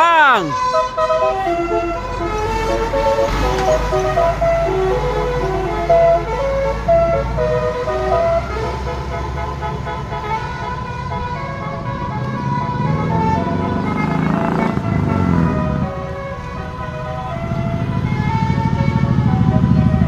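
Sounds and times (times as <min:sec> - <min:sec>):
bus engine running: 0:00.0 - 0:20.0
melody horn playing a tune: 0:00.0 - 0:20.0.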